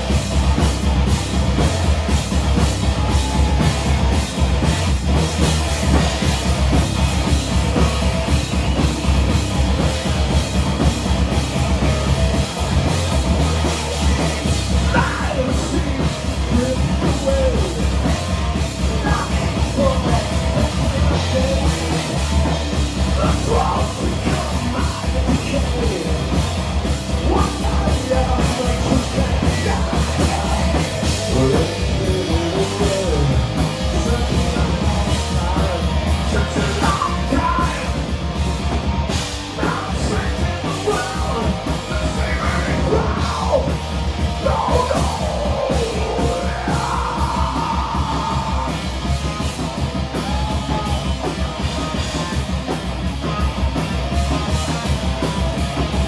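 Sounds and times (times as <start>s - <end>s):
drum kit: 0.0s - 56.0s
heavy metal band playing: 0.0s - 56.0s.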